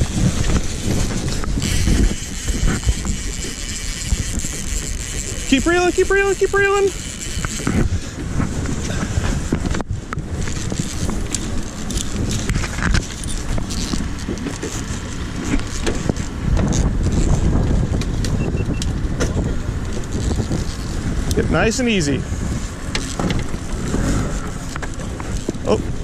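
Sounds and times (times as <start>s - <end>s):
gear knocking and rattling: 0.0s - 26.0s.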